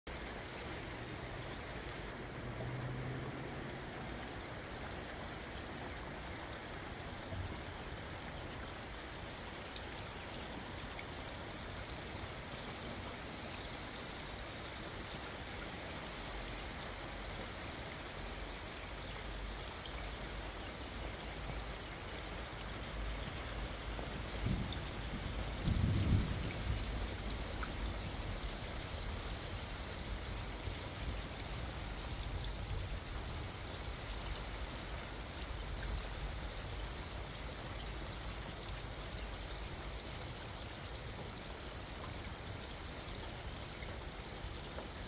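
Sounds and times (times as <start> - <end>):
steady rain: 0.1 - 45.0.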